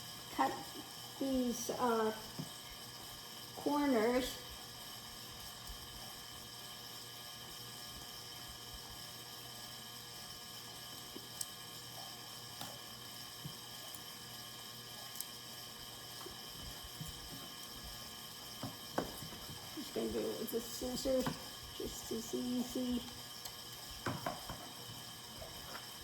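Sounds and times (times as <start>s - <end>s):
fan humming: 0.0s - 26.0s.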